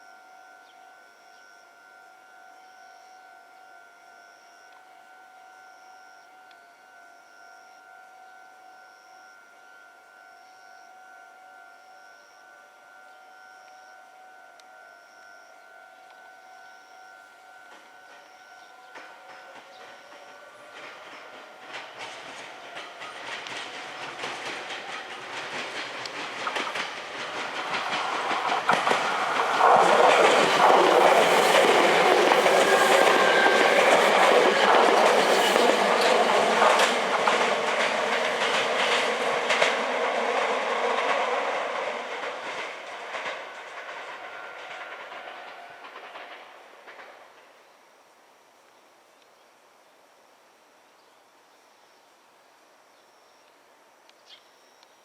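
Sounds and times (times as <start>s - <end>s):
electric train motor whine: 0.0s - 49.2s.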